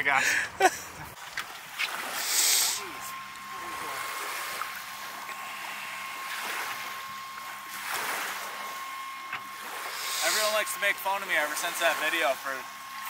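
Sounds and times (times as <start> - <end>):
small waves washing on shore: 1.2 - 13.0
faint steady high tone: 2.5 - 13.0.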